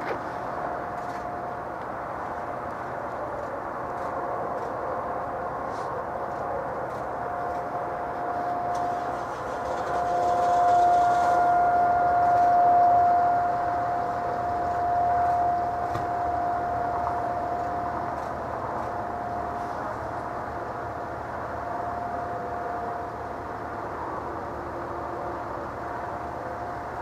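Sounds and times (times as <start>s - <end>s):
distant warning siren steady tone: 0.0s - 27.0s.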